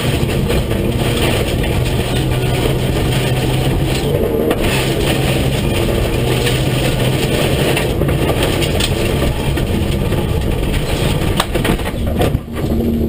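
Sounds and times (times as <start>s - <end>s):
rally car engine running hard: 0.0s - 13.0s
tyres on gravel: 0.0s - 13.0s.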